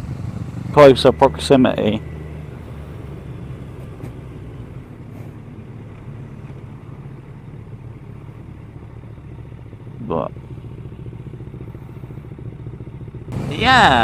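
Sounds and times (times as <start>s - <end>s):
motorcycle engine running: 0.0s - 14.0s
road noise: 0.0s - 14.0s.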